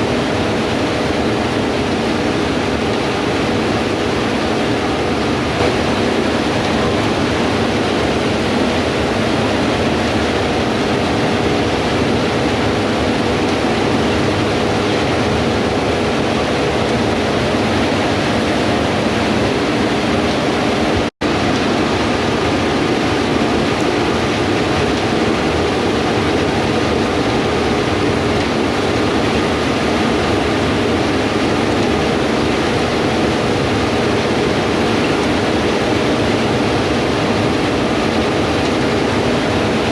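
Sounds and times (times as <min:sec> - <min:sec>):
combine harvester drone: 0:00.0 - 0:39.9
low engine hum: 0:00.0 - 0:39.9.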